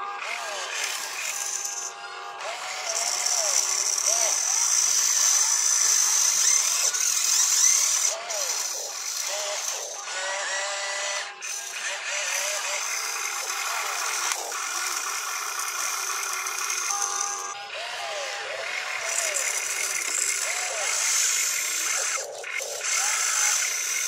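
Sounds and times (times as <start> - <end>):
toy excavator motors whining: 0.0 - 24.0.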